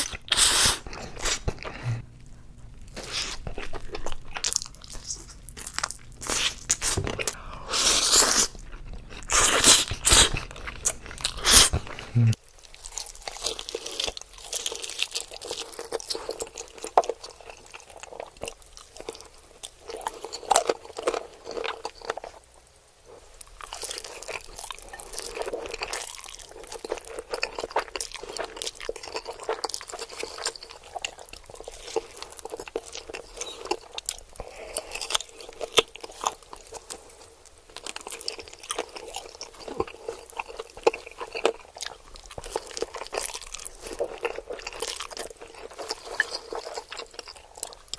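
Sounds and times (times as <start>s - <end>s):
crunchy chewing: 0.0s - 22.5s, 23.1s - 47.9s.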